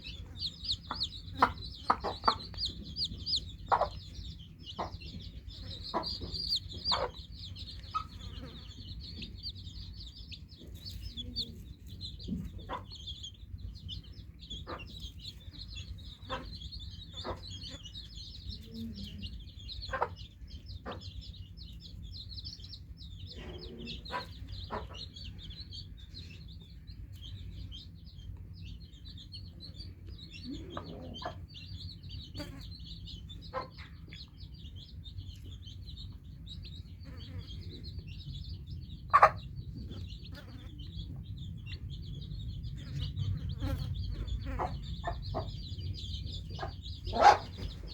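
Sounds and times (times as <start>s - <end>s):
chicks peeping: 0.0s - 47.9s
steady low hum: 0.0s - 47.9s.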